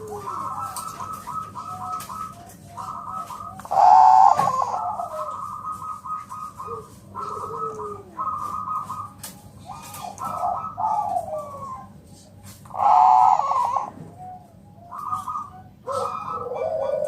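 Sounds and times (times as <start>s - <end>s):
dove cooing in trilled phrases: 0.0s - 17.0s.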